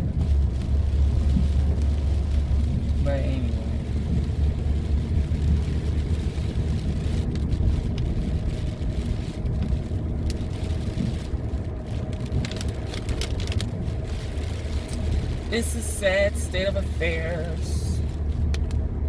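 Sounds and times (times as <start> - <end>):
road and engine noise in car: 0.0 - 19.0.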